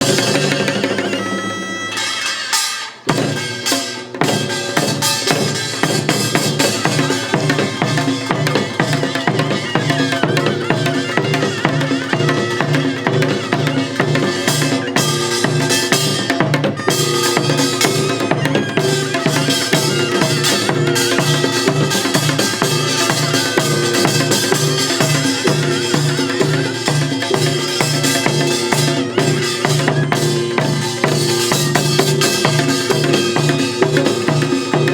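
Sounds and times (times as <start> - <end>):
drums beating fast rhythm: 0.0 - 34.9.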